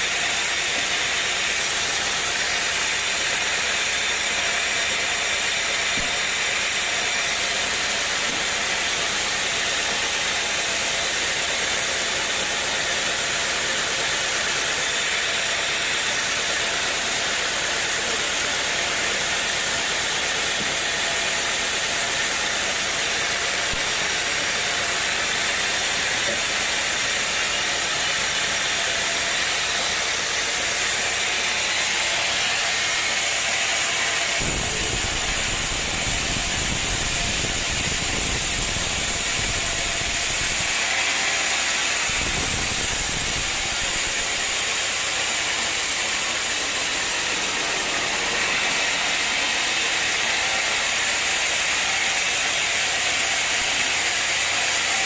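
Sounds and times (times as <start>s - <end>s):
sawmill saw cutting wood: 0.0s - 55.0s.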